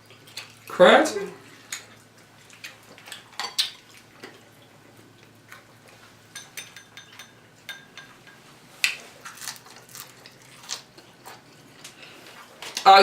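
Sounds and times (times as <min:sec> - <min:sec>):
crunching and chewing food: 0:00.0 - 0:00.8, 0:01.4 - 0:06.4, 0:07.5 - 0:12.9.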